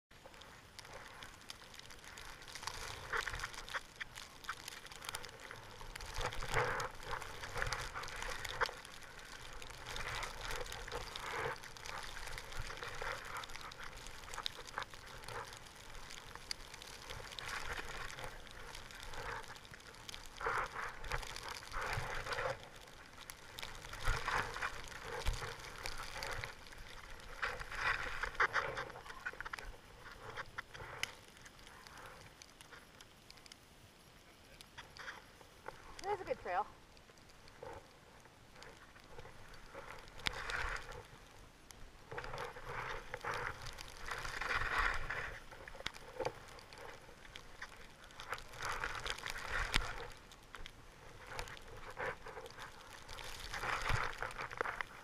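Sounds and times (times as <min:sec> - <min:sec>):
skis swishing through snow: 0:00.2 - 0:32.2, 0:42.0 - 0:55.0.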